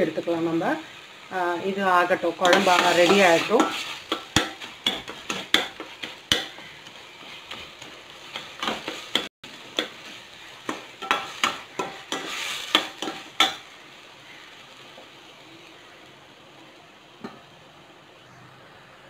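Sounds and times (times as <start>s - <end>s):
frying sizzle: 0.0s - 19.0s.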